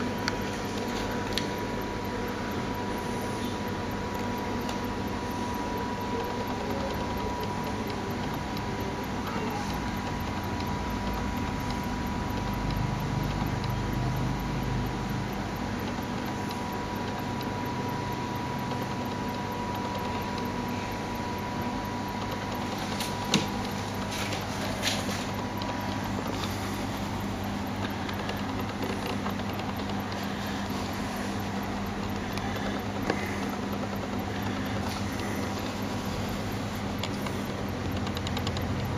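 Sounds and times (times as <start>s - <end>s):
aquarium equipment hum and hiss: 0.0s - 38.9s
sharp clicks: 0.0s - 38.9s.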